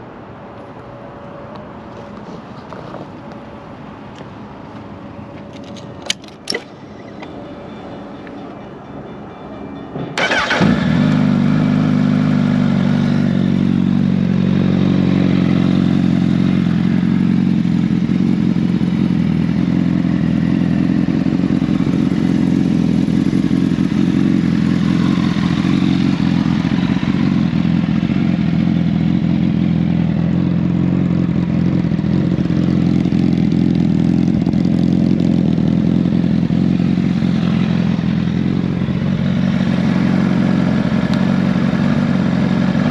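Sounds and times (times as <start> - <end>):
motorcycle engine cranking and idling: 4.1 - 7.5, 10.1 - 42.9.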